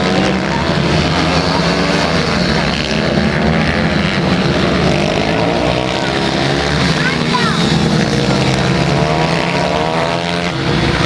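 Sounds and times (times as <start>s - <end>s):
pit bike engines racing: 0.0s - 11.0s.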